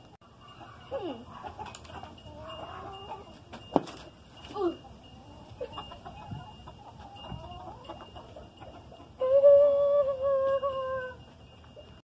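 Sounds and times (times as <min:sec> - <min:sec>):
chickens clucking: 0:00.3 - 0:04.1, 0:04.7 - 0:11.9.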